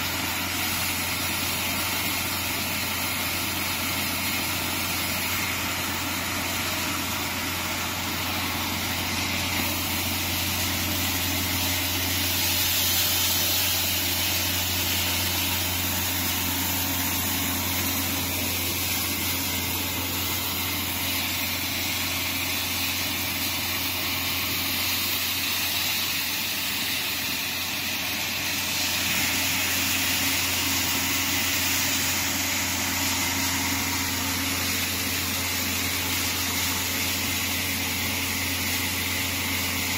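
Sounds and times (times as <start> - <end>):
dryer machine humming and hissing: 0.0 - 39.9.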